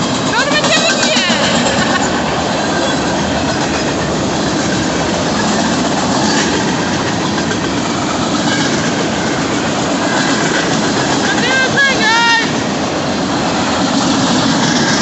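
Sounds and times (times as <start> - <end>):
steel wheels on rails: 0.0 - 15.0.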